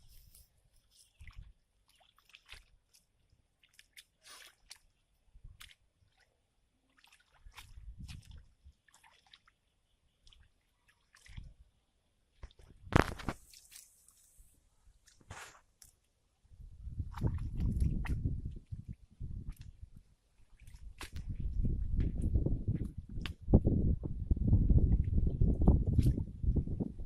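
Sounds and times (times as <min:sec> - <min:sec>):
water and mud dripping and squishing: 0:00.0 - 0:16.2, 0:16.8 - 0:23.7, 0:24.7 - 0:26.8.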